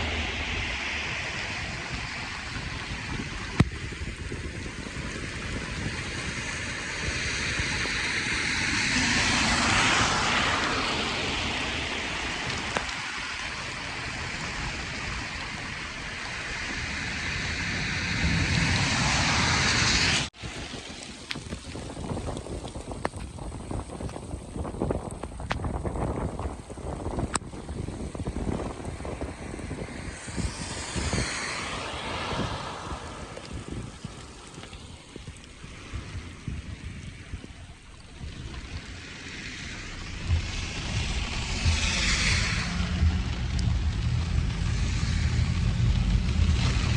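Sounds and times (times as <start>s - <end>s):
low rumble: 0.0s - 20.8s, 24.7s - 46.9s
rain pouring down: 0.0s - 46.9s
steady rushing noise: 0.0s - 46.9s
wind buffeting microphone: 0.0s - 46.9s.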